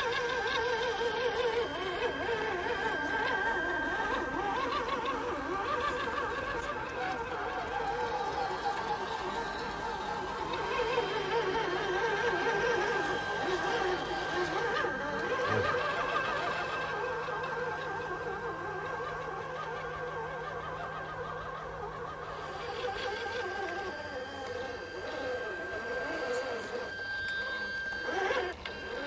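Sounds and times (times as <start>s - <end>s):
rc truck motors whining: 0.0s - 29.0s
steady high tone: 0.0s - 29.0s.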